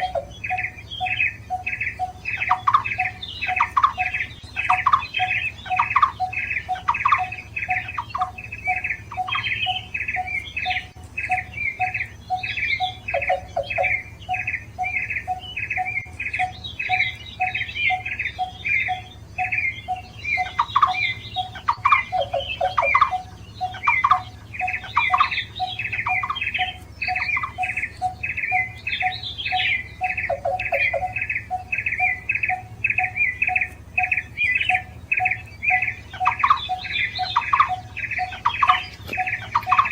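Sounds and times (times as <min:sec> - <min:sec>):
barbets calling: 0:00.0 - 0:39.9.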